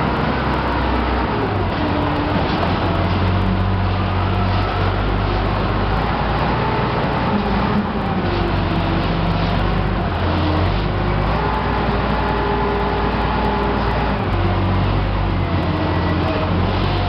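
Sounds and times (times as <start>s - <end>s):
diesel engine working hard: 0.0s - 17.0s.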